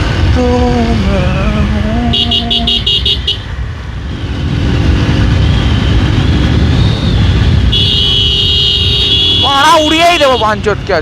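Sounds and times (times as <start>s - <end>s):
road and wind rumble: 0.0s - 11.0s.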